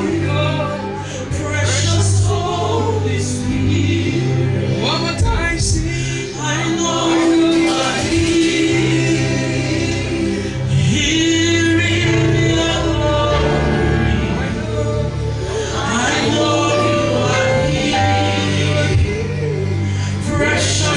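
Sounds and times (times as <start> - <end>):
long held chords: 0.0 - 20.9
voices singing: 0.0 - 20.9.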